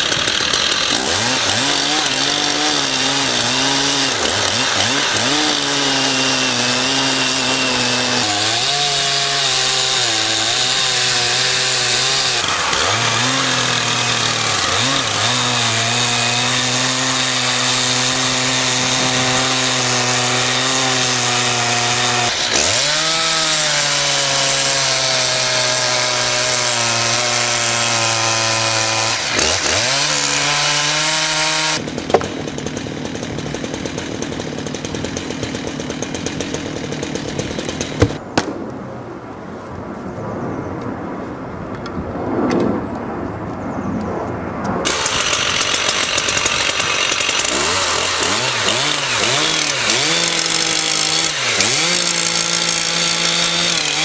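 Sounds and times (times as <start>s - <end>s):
chainsaw cutting through wood: 0.0s - 38.2s, 44.8s - 54.0s.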